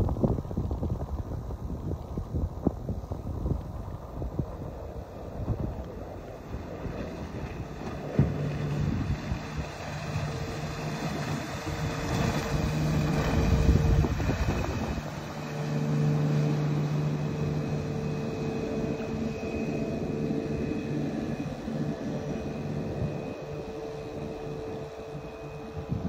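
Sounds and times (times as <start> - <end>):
boat engine droning: 0.0 - 26.0
wind buffeting microphone: 0.0 - 26.0.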